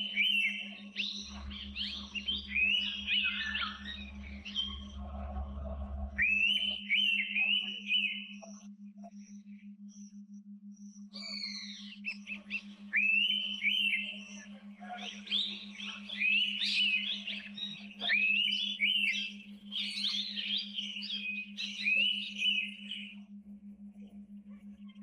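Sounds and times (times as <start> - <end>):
birds chirping and whistling: 0.0 - 23.2
pulsing low hum: 0.0 - 25.0.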